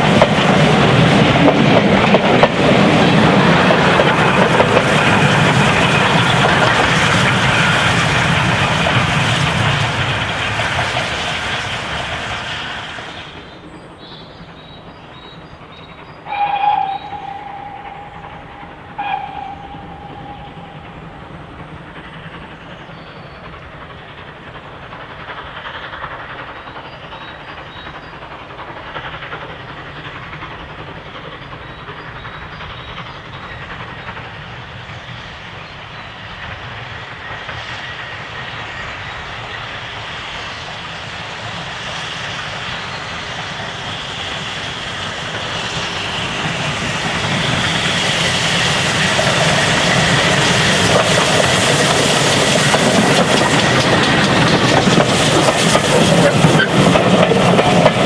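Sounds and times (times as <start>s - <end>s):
steam locomotive chuffing: 0.0s - 58.0s
train wheels on rails: 0.0s - 58.0s.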